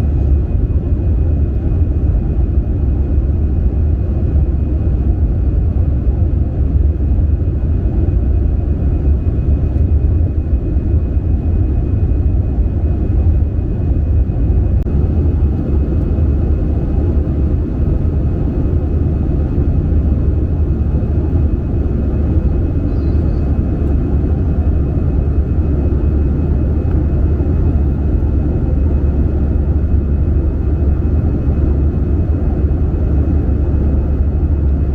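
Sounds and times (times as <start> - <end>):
airliner cabin engine rumble: 0.0 - 34.9
faint steady whine tones: 0.0 - 34.9.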